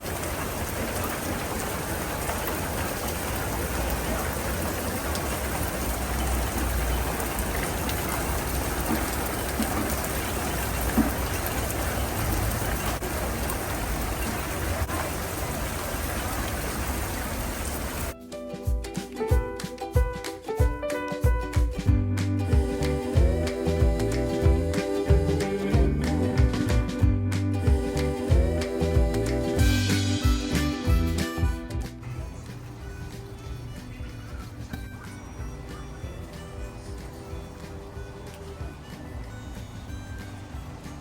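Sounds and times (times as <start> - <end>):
heavy rain: 0.0 - 18.2, 22.4 - 41.0.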